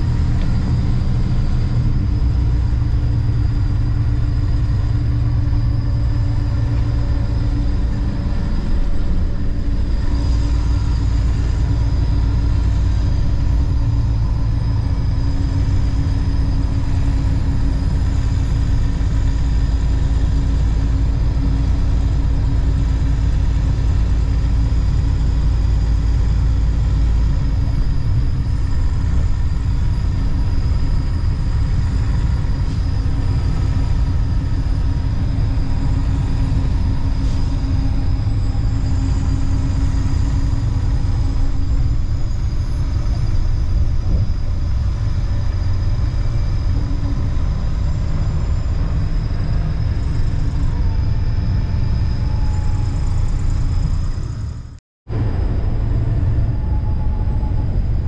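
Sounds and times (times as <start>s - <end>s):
steady hums: 0.0s - 58.0s
vehicle rumble: 0.0s - 58.0s.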